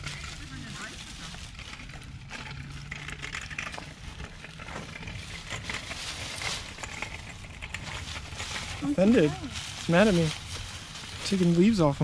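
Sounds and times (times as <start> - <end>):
dry leaves crunching and rustling: 0.0 - 12.0.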